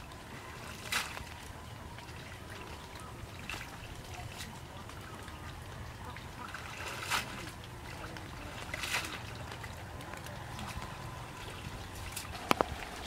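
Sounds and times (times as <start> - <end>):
wet net hauled into boat: 0.0 - 5.4, 6.3 - 13.0
water trickling and splashing: 0.0 - 13.0.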